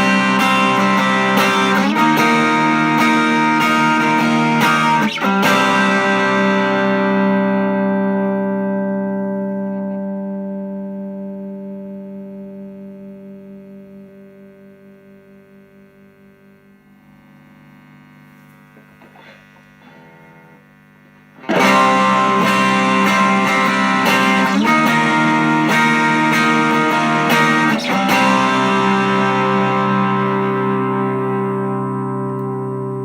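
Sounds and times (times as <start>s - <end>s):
quiet picked guitar notes: 0.0s - 16.9s, 21.4s - 33.0s
electric guitar chord ringing: 0.0s - 19.0s, 19.8s - 33.0s
overdriven guitar chords strummed: 0.0s - 33.0s.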